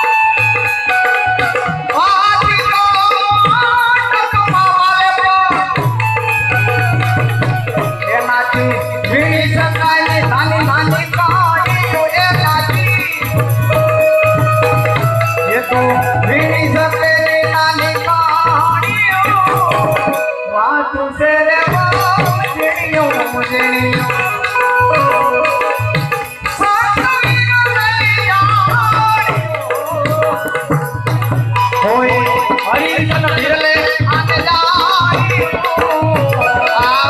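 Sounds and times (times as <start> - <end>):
rattling hand percussion: 0.0 - 20.5, 21.4 - 37.0
drums: 0.0 - 37.0
wavering melody line: 0.0 - 37.0.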